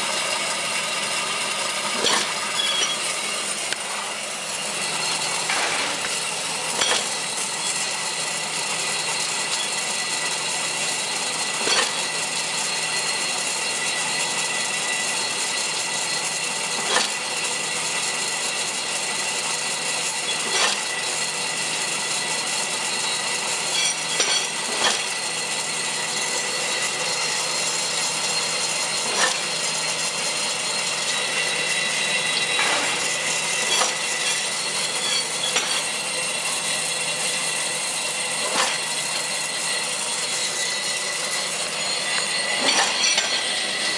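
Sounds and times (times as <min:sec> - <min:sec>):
machine whirring with whining tones: 0:00.0 - 0:43.9.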